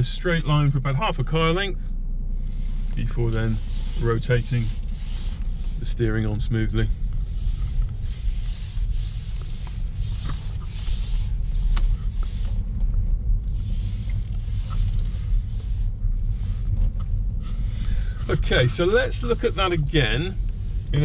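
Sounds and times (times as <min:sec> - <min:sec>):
car engine and tyres rumbling: 0:00.0 - 0:21.0
hands sliding on steering wheel: 0:02.5 - 0:21.0.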